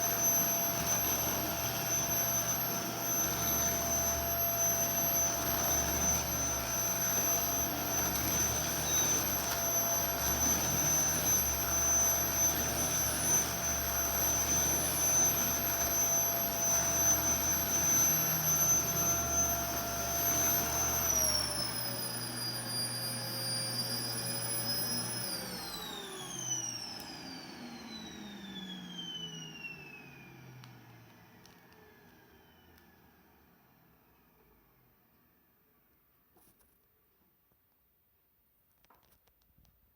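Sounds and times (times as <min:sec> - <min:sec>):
vacuum cleaner motor whining: 0:00.0 - 0:35.5.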